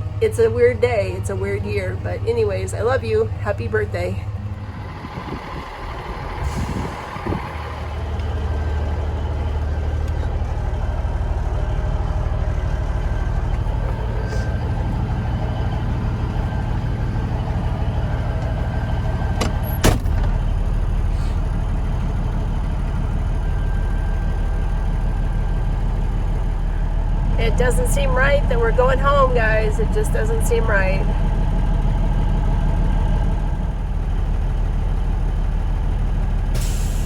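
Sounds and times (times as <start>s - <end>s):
truck diesel engine rumbling: 0.0s - 37.0s.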